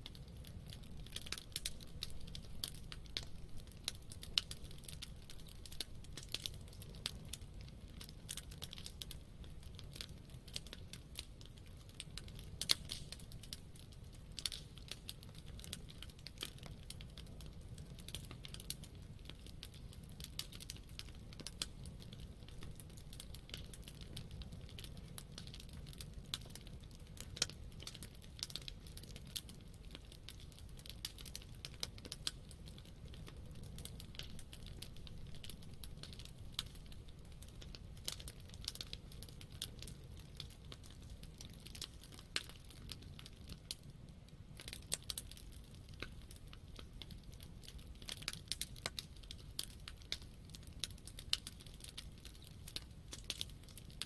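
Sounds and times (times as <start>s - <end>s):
burning wood crackling and popping: 0.0s - 54.0s
low rumble of flames: 0.0s - 54.0s.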